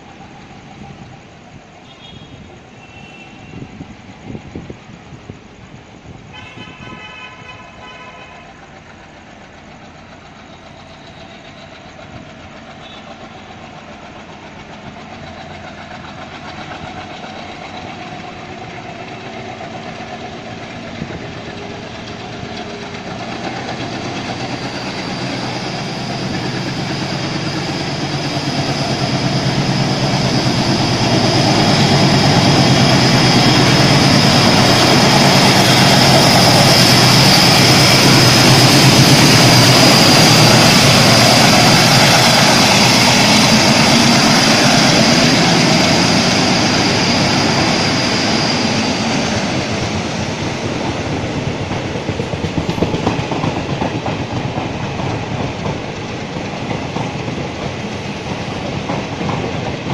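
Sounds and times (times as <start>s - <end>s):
diesel locomotive engines: 0.0s - 59.9s
train running noise: 0.0s - 59.9s.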